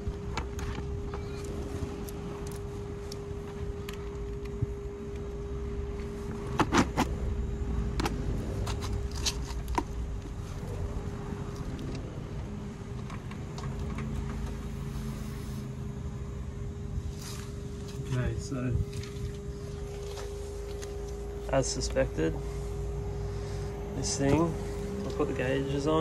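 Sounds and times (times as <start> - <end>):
air conditioner unit humming: 0.0 - 26.0.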